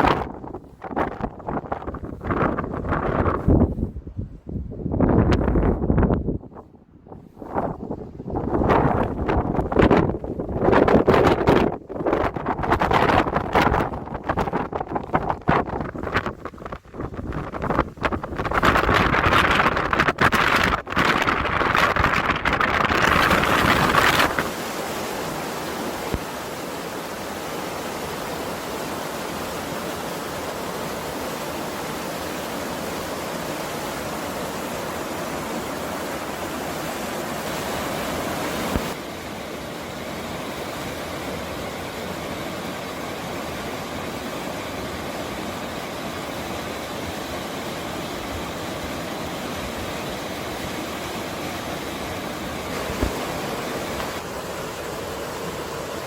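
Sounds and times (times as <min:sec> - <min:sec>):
mountain stream rushing: 0:07.4 - 0:56.0.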